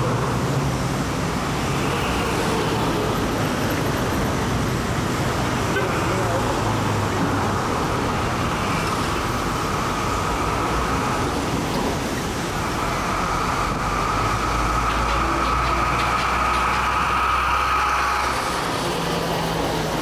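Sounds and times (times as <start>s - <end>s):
cars passing: 0.0s - 20.0s
heavy truck engine rumble: 0.0s - 20.0s
road noise hum: 0.0s - 20.0s.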